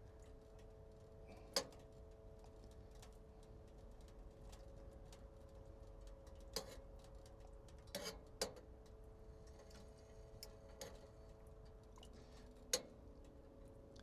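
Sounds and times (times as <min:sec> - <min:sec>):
faint steady hum: 0:00.0 - 0:14.0
light ticks: 0:00.1 - 0:14.0.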